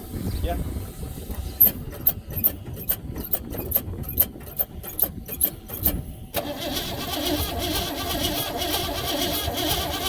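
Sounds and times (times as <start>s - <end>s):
engine cranking and running: 1.1s - 10.0s.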